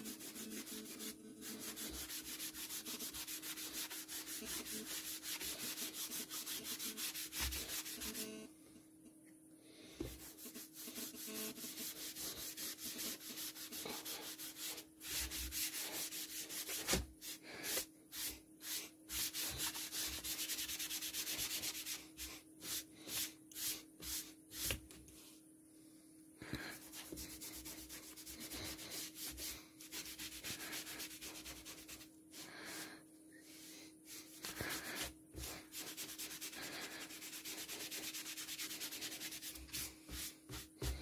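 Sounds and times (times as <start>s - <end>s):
pad rubbing on wooden board: 0.0s - 8.4s, 10.0s - 24.8s, 26.9s - 32.6s, 34.2s - 41.0s.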